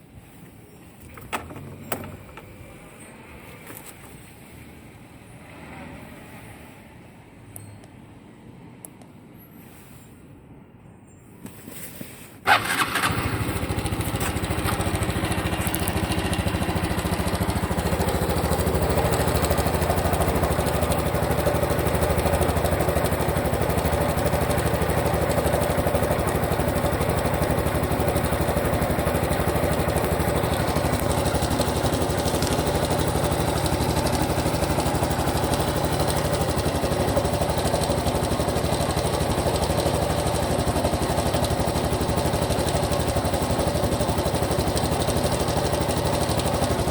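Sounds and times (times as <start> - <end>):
motorcycle engine starting and idling: 1.0 - 4.1, 12.4 - 46.9.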